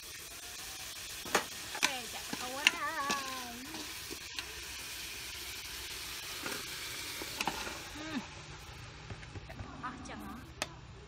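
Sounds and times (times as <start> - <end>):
pot hissing on fire: 0.0 - 11.0.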